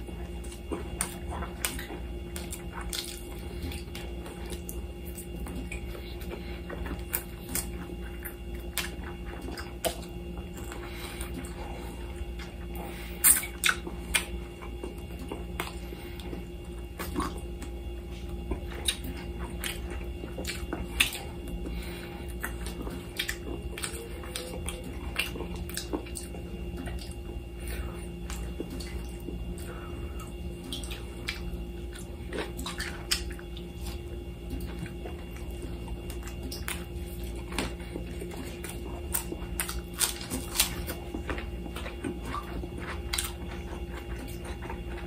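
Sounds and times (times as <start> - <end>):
person chewing and lip smacking: 0.0 - 45.0
steady low hum: 0.0 - 45.0.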